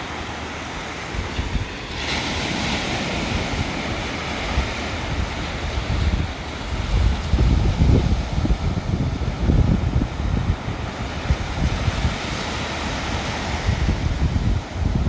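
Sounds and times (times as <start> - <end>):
ocean surf washing on shore: 0.0 - 15.0
wind buffeting microphone: 0.8 - 15.0.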